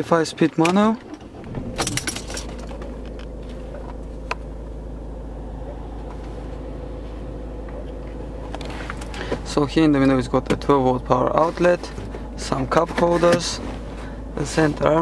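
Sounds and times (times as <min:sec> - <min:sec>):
car cabin running hum: 0:00.0 - 0:15.0.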